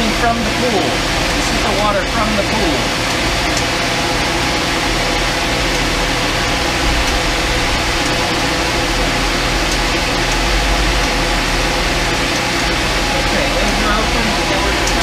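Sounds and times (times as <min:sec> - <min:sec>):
pool pump hum: 0:00.0 - 0:15.0
water rushing through pipes: 0:00.0 - 0:15.0.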